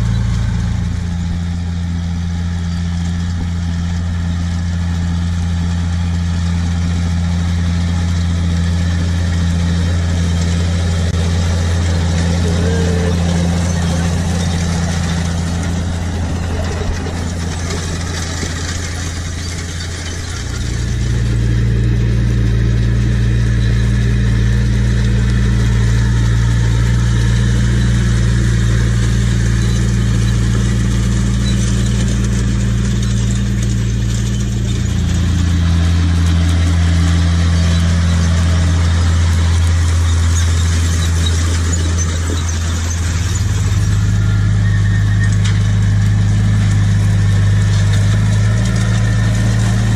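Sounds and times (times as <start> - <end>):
tractor diesel engines running: 0.0 - 49.9.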